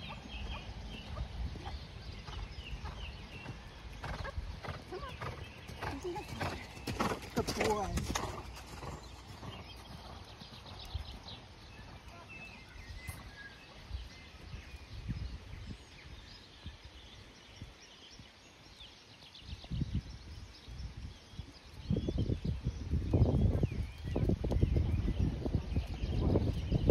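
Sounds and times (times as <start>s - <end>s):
distant birds chirping: 0.0s - 26.9s.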